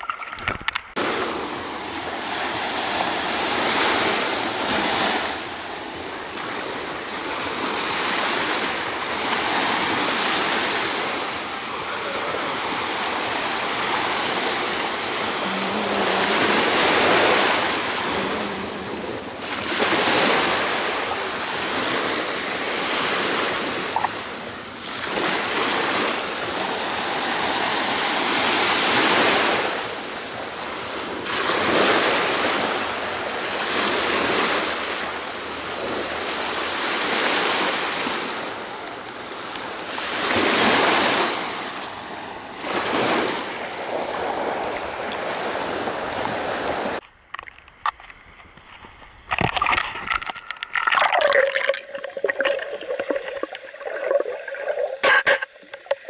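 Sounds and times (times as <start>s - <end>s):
small waves breaking on sand: 1.0s - 47.0s.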